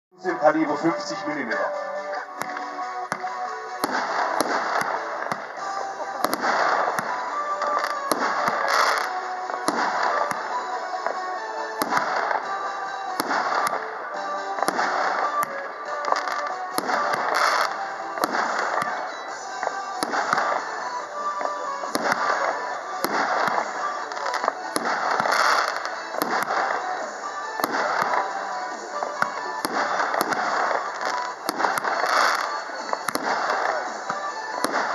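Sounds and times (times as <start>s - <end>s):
background music: 0.1s - 34.9s
fireworks firing sharp reports: 0.2s - 34.9s.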